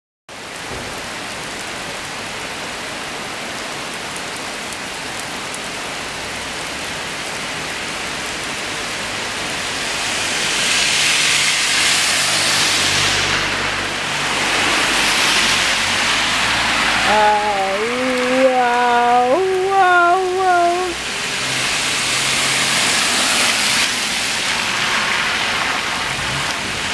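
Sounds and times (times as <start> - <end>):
car tyres swishing on wet road: 0.3 - 17.1, 20.9 - 26.9
hard rain on wet street: 0.3 - 26.9.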